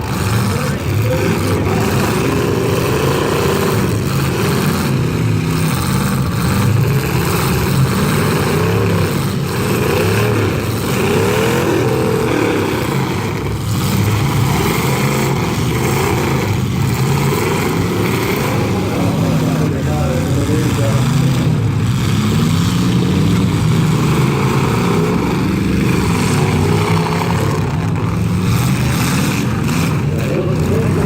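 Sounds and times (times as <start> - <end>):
car and truck engines revving: 0.0 - 31.0.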